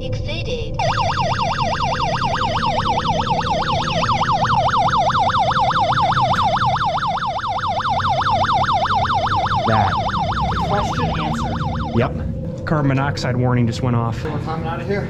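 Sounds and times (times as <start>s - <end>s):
rapid warbling alarm: 0.8s - 13.4s.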